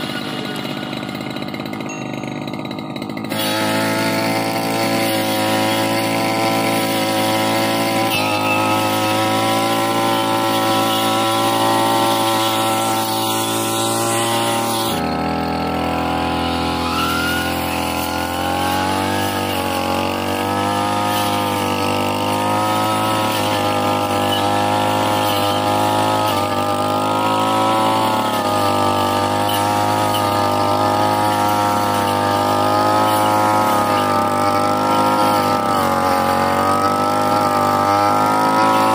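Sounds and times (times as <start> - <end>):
brush cutter engine cutting: 0.0 - 38.9.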